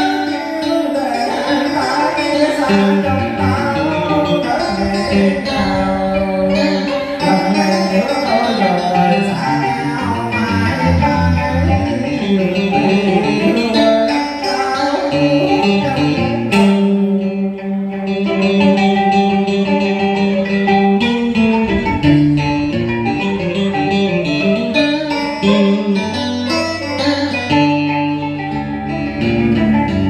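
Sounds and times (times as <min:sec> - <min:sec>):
electric guitar melody: 0:00.0 - 0:30.0
second stringed instrument: 0:00.0 - 0:30.0.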